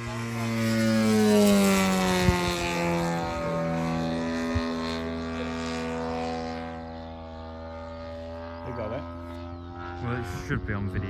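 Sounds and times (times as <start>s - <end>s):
model plane engine droning: 0.0s - 11.0s.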